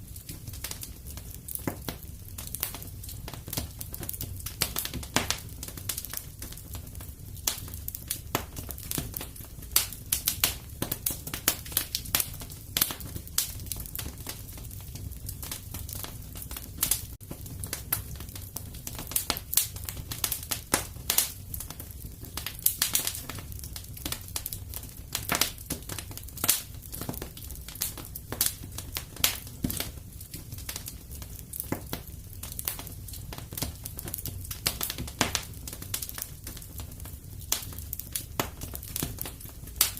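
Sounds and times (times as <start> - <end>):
wood fire crackling: 0.0 - 39.9
sharp pops from fire: 0.1 - 39.9.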